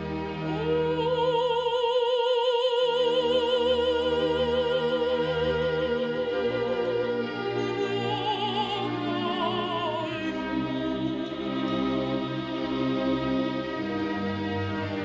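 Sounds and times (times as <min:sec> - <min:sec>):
orchestral music: 0:00.0 - 0:01.6, 0:03.1 - 0:15.0
operatic singing voice: 0:00.0 - 0:13.9.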